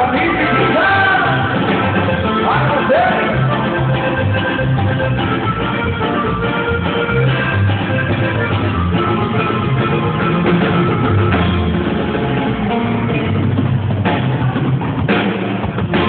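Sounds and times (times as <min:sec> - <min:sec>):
band playing live: 0:00.0 - 0:16.0
bass line: 0:00.0 - 0:16.0
drums: 0:00.0 - 0:16.0.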